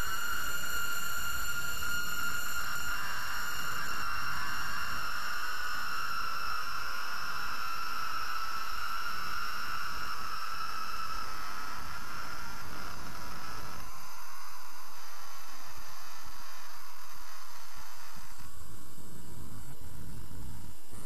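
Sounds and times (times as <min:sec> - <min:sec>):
electronic drone with hiss: 0:00.0 - 0:21.0.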